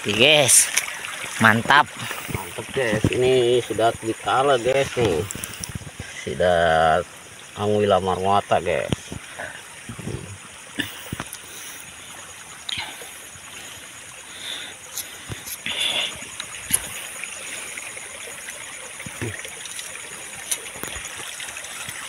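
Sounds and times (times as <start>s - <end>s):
small river running: 0.0s - 22.0s.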